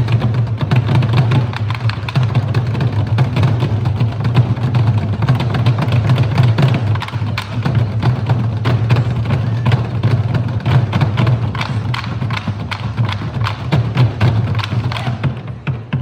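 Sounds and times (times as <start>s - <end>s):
sticks striking drums: 0.0s - 16.0s.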